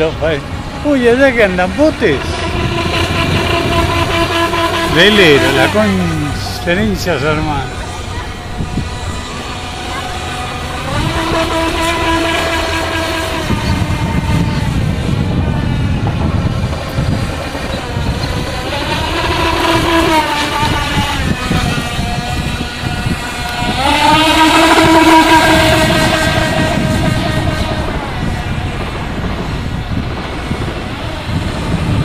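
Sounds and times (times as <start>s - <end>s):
model speedboat motor whining: 0.0s - 32.0s.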